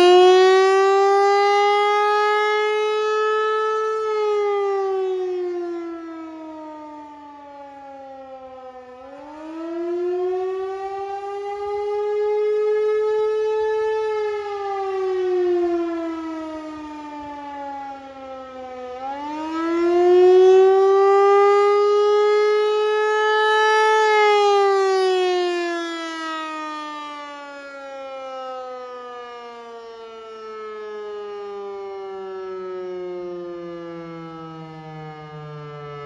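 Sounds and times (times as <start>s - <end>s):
rising and falling warning siren: 0.0s - 36.0s.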